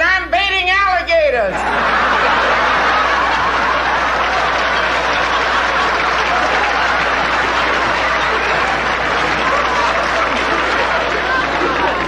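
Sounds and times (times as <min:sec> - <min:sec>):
audience laughing: 0:01.5 - 0:12.0
audience applauding: 0:01.6 - 0:12.0.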